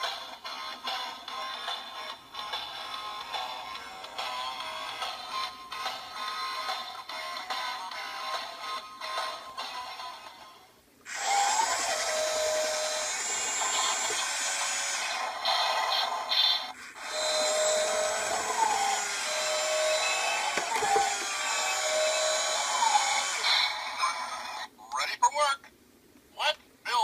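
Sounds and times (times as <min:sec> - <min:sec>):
toy electric motor whirring: 0:00.0 - 0:10.2, 0:11.1 - 0:24.7.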